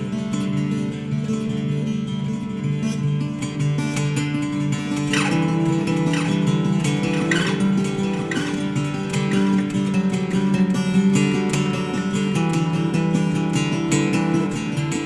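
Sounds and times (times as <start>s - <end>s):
acoustic guitar bluegrass tune: 0.0s - 15.0s.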